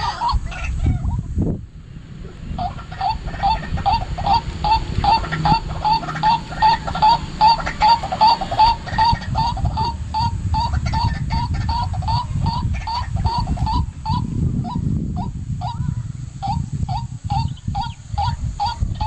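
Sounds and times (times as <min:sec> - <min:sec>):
waterhen calling: 0:00.0 - 0:01.3, 0:02.2 - 0:19.0
low rumble: 0:00.0 - 0:19.0.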